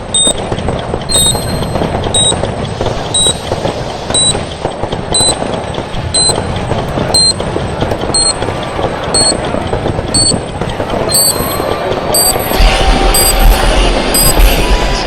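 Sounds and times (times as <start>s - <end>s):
high electronic beeps: 0.0s - 9.5s, 10.1s - 14.9s
fireworks popping and crackling: 0.0s - 15.0s.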